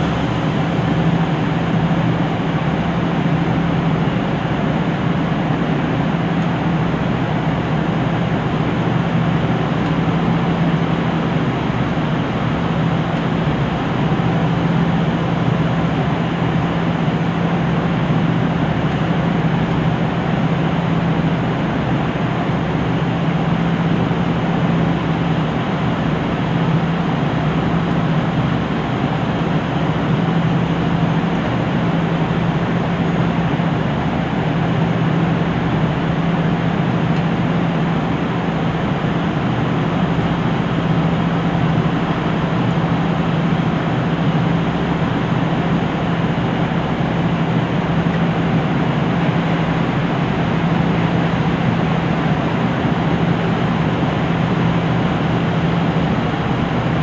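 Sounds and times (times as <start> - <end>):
diesel railcar engine idling: 0.0 - 57.0.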